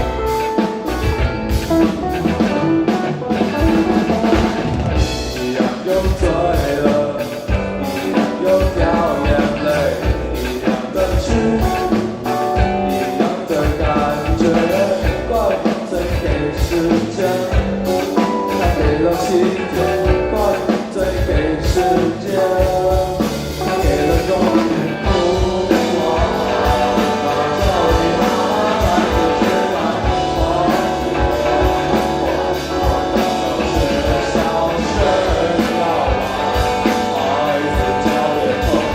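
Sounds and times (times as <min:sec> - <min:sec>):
drum kit beat: 0:00.0 - 0:38.9
live rock band playing: 0:00.0 - 0:38.9.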